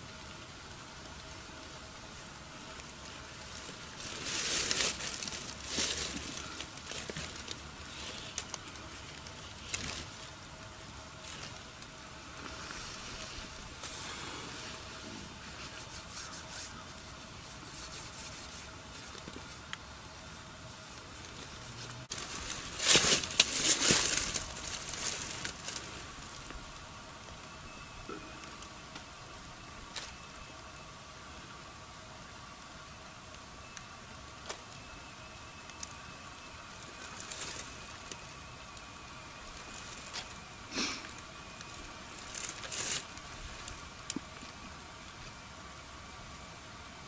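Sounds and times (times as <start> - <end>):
dry leaves and brush rustling: 0.0 - 46.8
faint steady hiss: 0.0 - 47.0.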